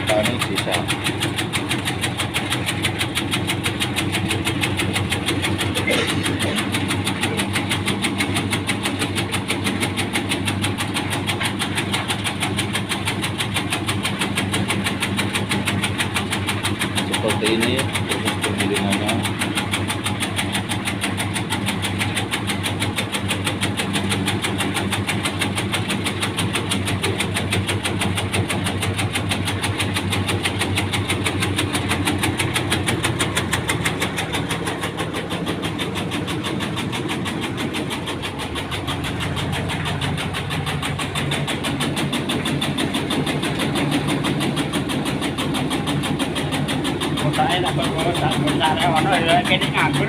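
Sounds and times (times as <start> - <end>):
tobacco-cutting machine droning: 0.0 - 50.0.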